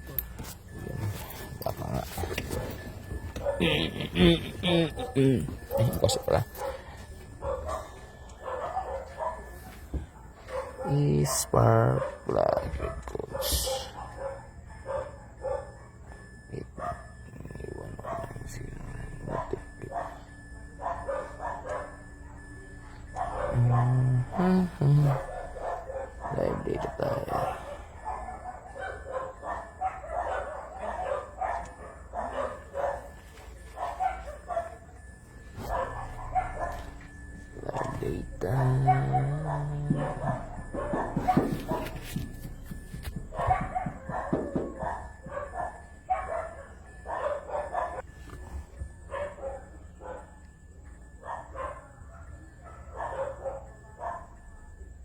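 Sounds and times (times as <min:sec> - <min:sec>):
low hum: 0:00.0 - 0:11.1, 0:11.9 - 0:29.7, 0:30.5 - 0:51.2
dog barking: 0:00.1 - 0:04.1, 0:04.9 - 0:55.0.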